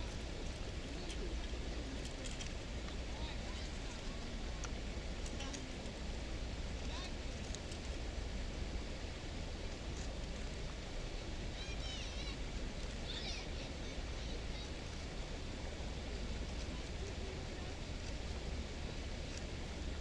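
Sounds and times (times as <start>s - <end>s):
outdoor background hiss and rumble: 0.0s - 20.0s.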